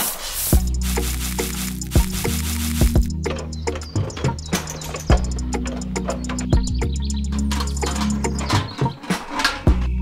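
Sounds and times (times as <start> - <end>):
music with low sustained notes: 0.6 - 10.0.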